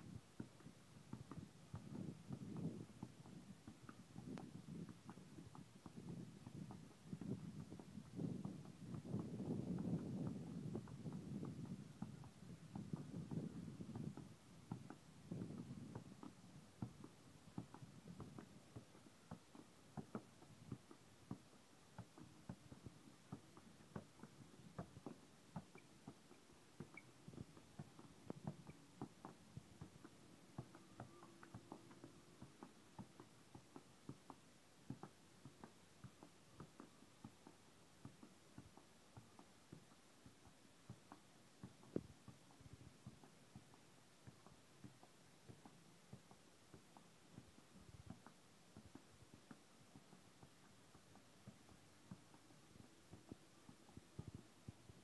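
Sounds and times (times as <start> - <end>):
soft taps of football on foot: 0.0 - 55.0.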